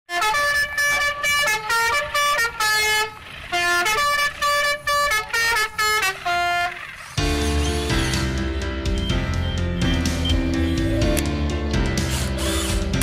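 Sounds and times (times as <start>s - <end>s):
buzzy horn-like tune: 0.1s - 11.3s.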